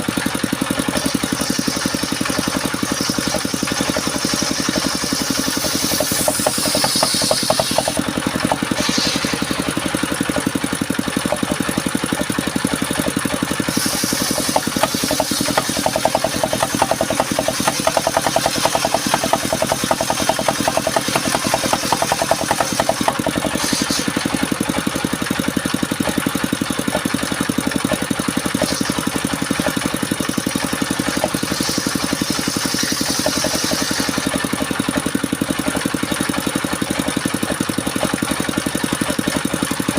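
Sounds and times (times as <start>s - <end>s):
engine-driven circular saw running: 0.0s - 39.9s.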